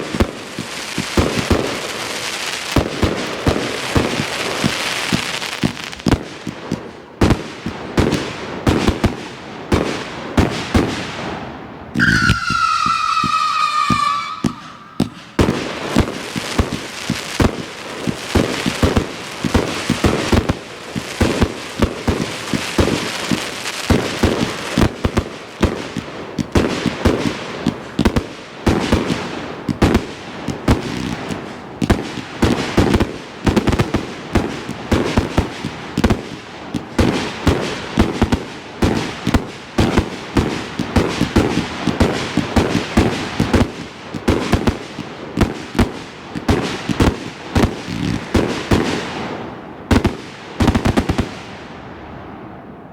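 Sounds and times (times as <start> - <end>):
firework crackle: 0.0 - 52.6
firework cake barrage: 0.0 - 52.9.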